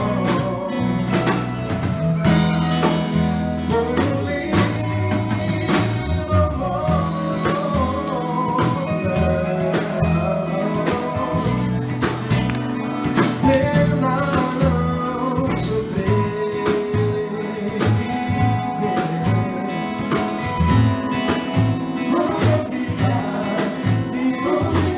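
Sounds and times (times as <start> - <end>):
song with guitar bass and drums: 0.0 - 24.9.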